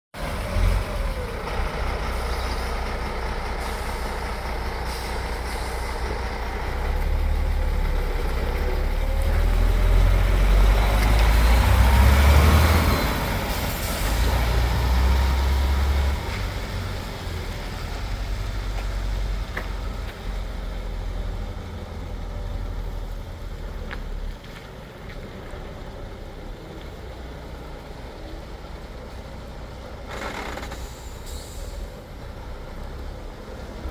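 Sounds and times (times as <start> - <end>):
diesel truck engine rumble: 0.1 - 33.9.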